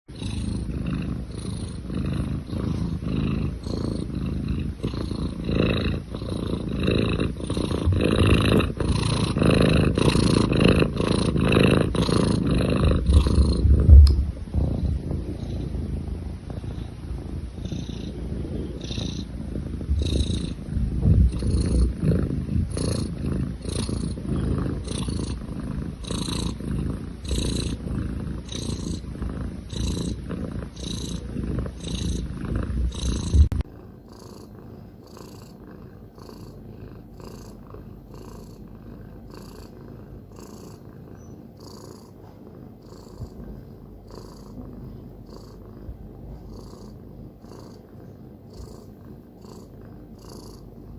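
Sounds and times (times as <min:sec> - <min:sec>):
cat purring: 0:00.1 - 0:50.9.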